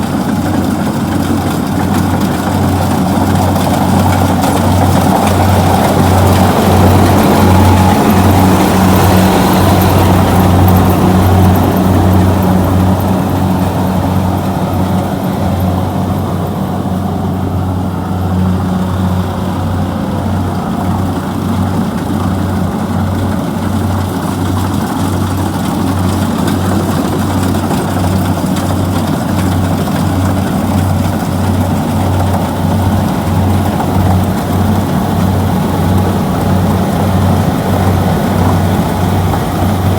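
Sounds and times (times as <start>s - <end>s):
combine harvester diesel drone: 0.0s - 39.9s.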